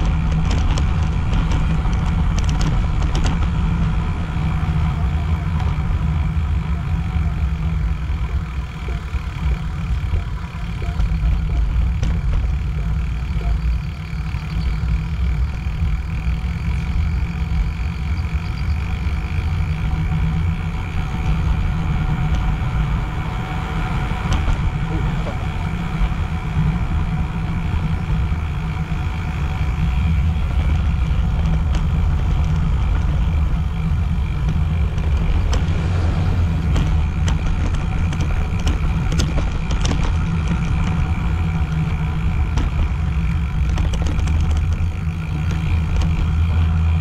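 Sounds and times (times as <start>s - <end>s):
wind rumble on microphone: 0.0s - 47.0s.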